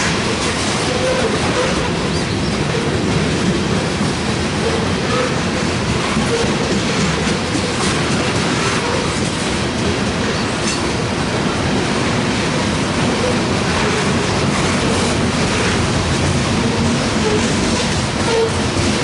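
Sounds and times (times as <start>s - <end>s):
freight train rolling past: 0.0s - 19.0s
wheels clacking over rail joints: 0.0s - 19.0s.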